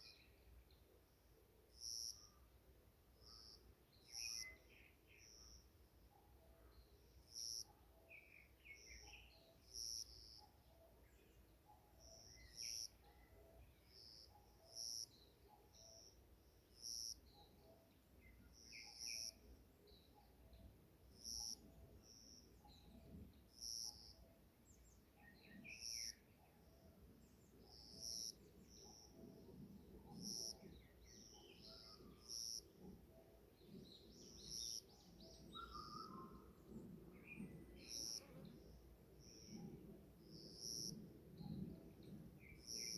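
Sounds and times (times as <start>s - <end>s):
soft bird chirps: 6.7s - 42.9s.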